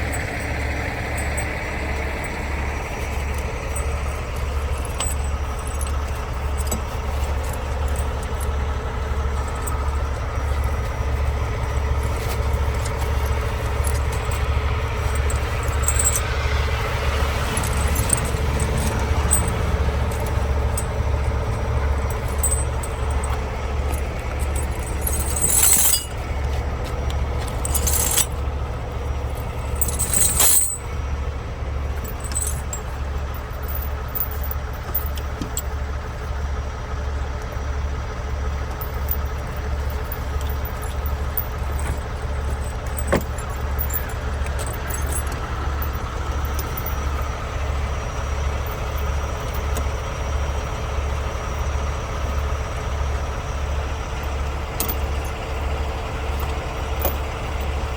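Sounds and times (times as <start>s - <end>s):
truck diesel engine droning: 0.0s - 57.9s.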